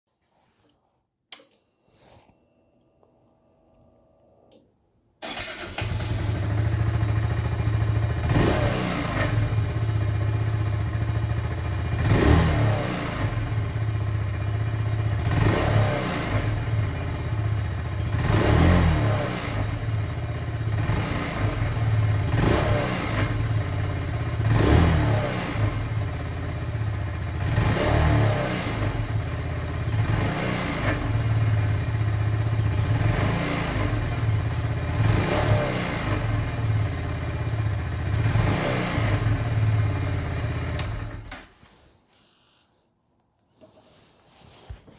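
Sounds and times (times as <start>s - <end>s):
motorcycle engine idling and revving: 5.2s - 41.4s.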